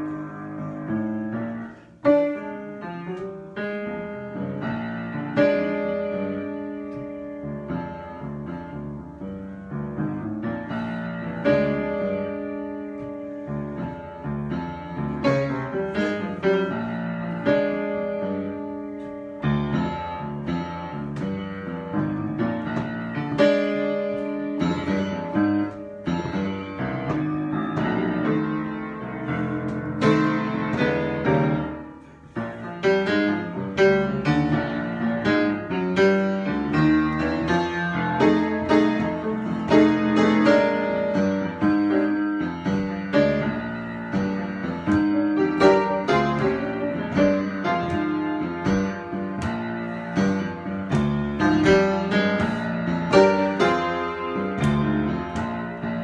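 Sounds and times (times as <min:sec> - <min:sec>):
solo piano improvising: 0:00.0 - 0:56.0.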